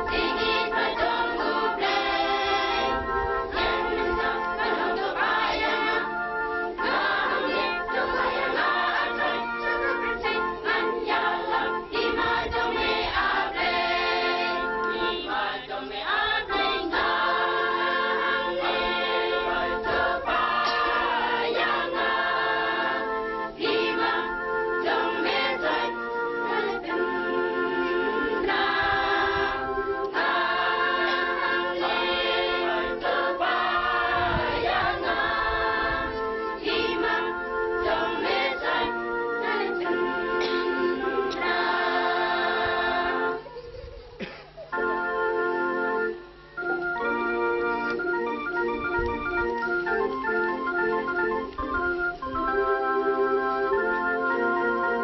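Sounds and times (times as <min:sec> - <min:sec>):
choir singing in harmony: 0:00.0 - 0:43.6, 0:44.2 - 0:55.0.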